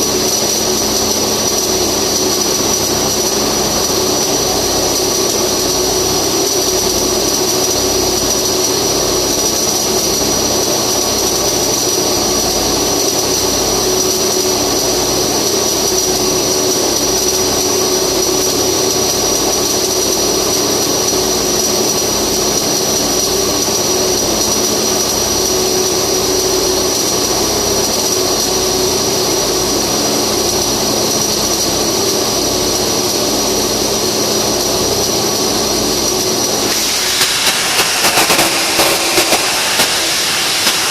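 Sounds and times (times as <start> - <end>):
machinery whine and hum: 0.0 - 40.9
welding arc hissing and crackling: 0.0 - 40.9.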